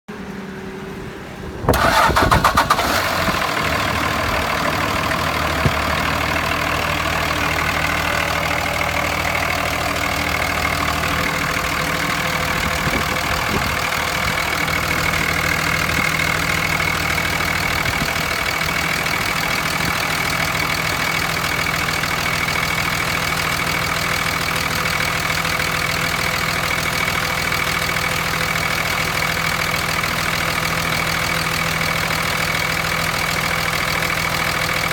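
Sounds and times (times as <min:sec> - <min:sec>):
diesel engine starting and idling: 0:00.1 - 0:34.9.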